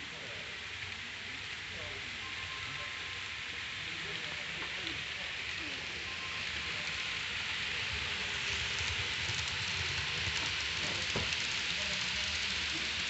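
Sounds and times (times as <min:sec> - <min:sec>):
model trains rolling on track: 0:00.0 - 0:13.0.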